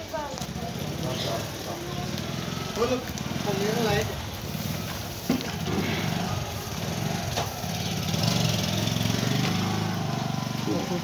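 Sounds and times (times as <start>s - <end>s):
small engine puttering: 0.8s - 11.0s.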